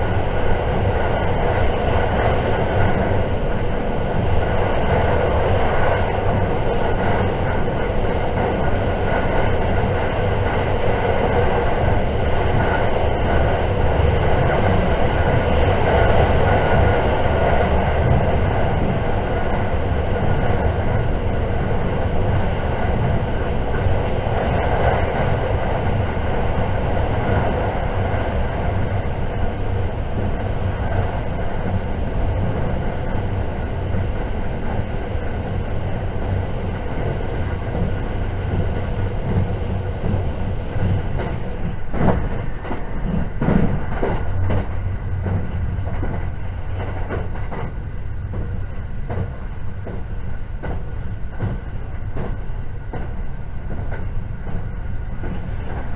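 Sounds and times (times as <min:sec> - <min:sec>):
train cabin rumble: 0:00.0 - 0:55.9.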